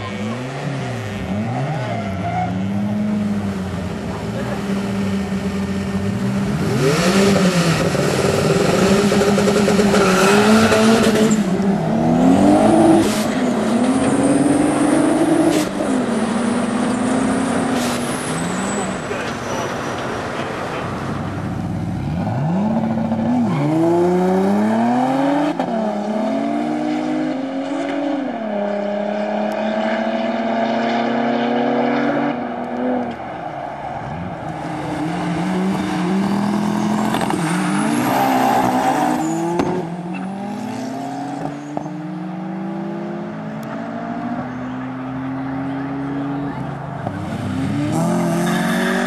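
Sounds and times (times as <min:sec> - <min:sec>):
car engines revving through gears: 0:00.0 - 0:49.0.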